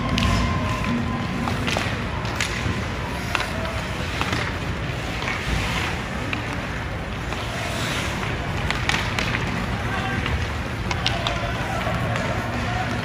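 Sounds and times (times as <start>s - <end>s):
arena ambience rumble: 0.0s - 13.0s
sharp clacks of sticks and puck: 0.0s - 13.0s.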